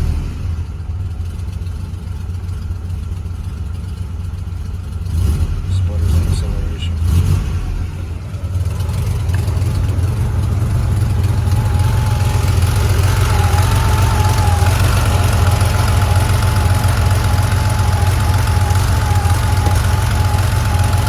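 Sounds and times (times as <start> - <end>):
car engine idling with misfire: 0.0 - 21.0.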